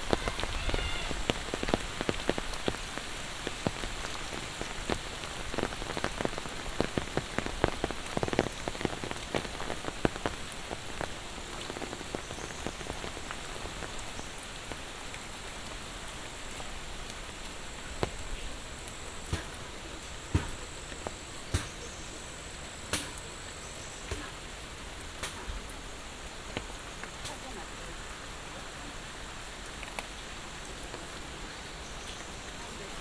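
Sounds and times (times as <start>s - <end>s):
heavy raindrops tapping: 0.0s - 33.0s
rain hissing: 0.0s - 33.0s.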